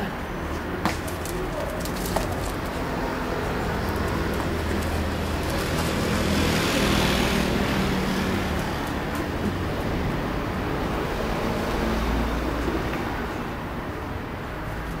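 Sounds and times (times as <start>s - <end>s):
road traffic: 0.0s - 15.0s
vehicle passing: 1.1s - 13.6s.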